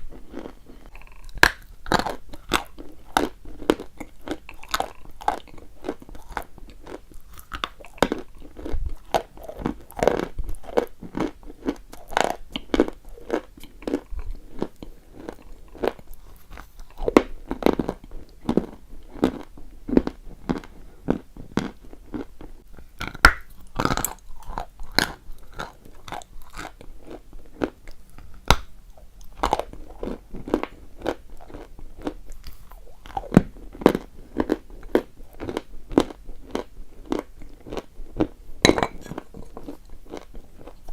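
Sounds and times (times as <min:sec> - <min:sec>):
person chewing chalk: 0:00.0 - 0:40.9.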